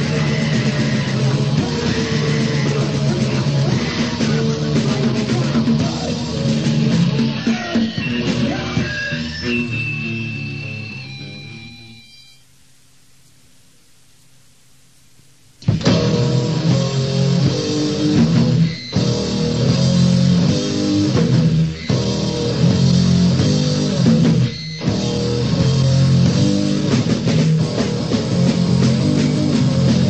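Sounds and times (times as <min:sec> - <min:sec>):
bass guitar: 0:00.0 - 0:12.0, 0:15.6 - 0:30.0
distorted electric guitars: 0:00.0 - 0:30.0
drums: 0:00.0 - 0:30.0
tape hiss: 0:00.0 - 0:30.0.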